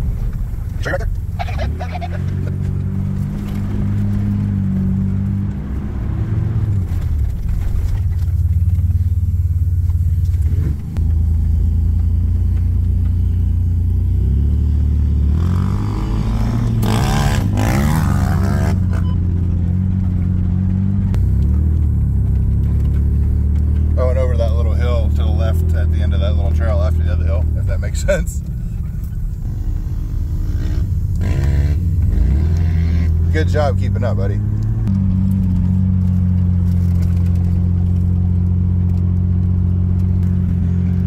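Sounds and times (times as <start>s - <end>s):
off-road vehicle engine drone: 0.0s - 41.0s.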